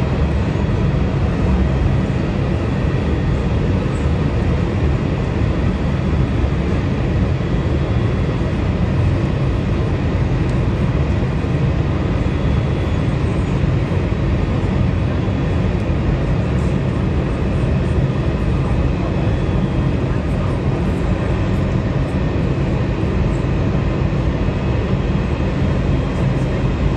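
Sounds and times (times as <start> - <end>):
faint high engine whine: 0.0 - 26.9
jet engines rumbling: 0.0 - 26.9.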